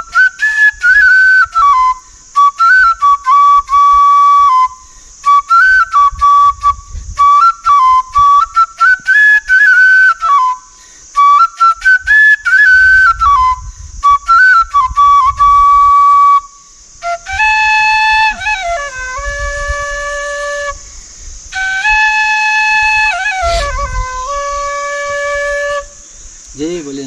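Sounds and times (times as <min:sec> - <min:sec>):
bamboo flute playing: 0:00.0 - 0:26.4.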